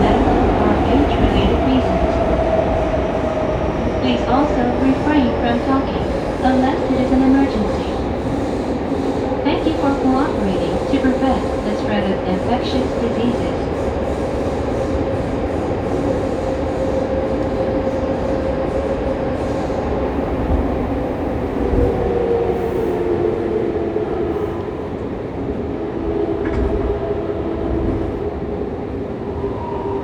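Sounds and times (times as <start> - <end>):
train inverter whine: 0.0 - 28.2.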